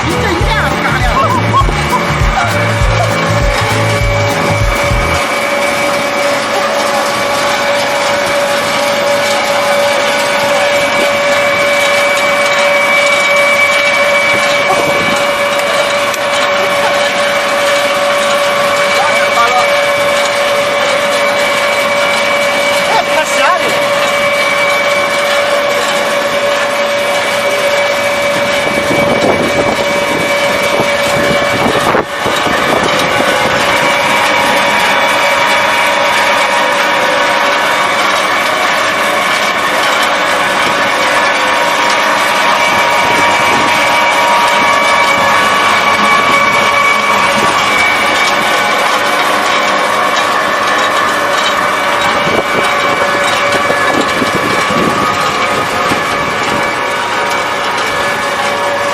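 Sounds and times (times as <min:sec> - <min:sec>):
machinery running: 0:00.0 - 0:58.9
steady machine whine: 0:00.0 - 0:58.9.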